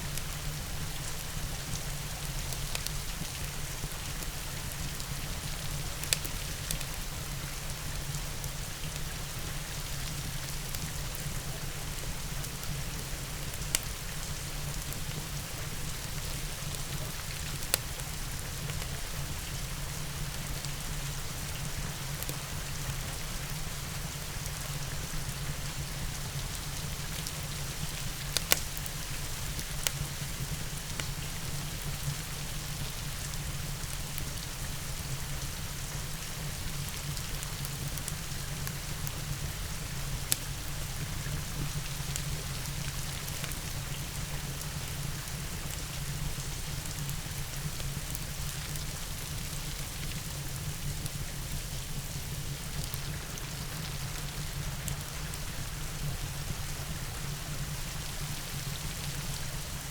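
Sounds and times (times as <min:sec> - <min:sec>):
rain falling: 0:00.0 - 0:59.9
wood fire crackling: 0:00.1 - 0:59.9.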